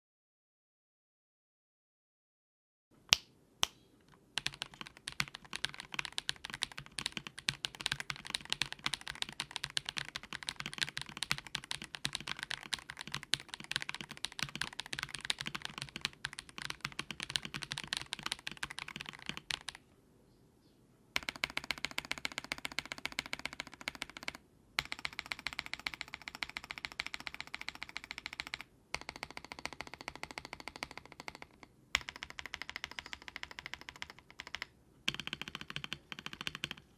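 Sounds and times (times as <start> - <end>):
mechanical keyboard typing: 4.4 - 19.8, 21.2 - 36.9.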